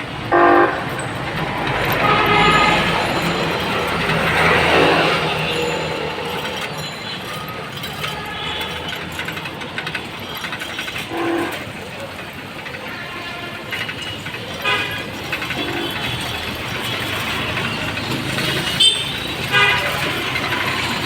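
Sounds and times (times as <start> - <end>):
moving vehicle rumbling: 0.0 - 21.0.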